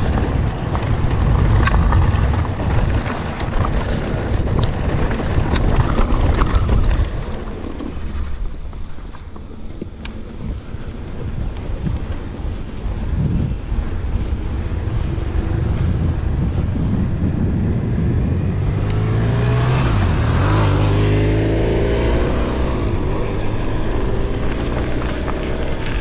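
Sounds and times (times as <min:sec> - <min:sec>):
bike clicking and rattling: 0:00.0 - 0:18.4, 0:22.0 - 0:26.0
wind buffeting microphone: 0:00.0 - 0:26.0.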